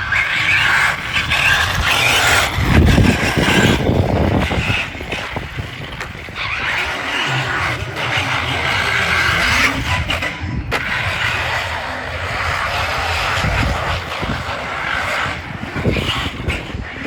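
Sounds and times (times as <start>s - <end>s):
remote control car motor whirring: 0.0s - 17.0s.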